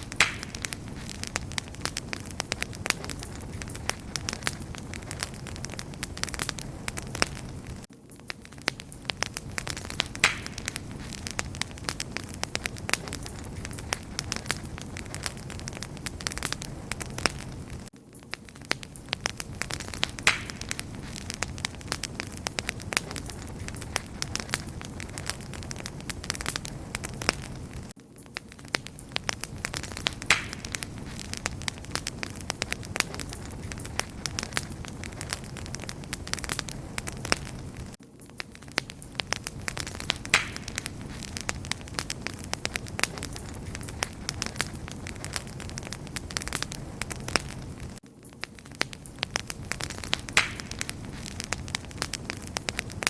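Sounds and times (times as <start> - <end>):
fire crackles and sharp pops: 0.0 - 53.0
wood fire hissing: 0.0 - 53.0.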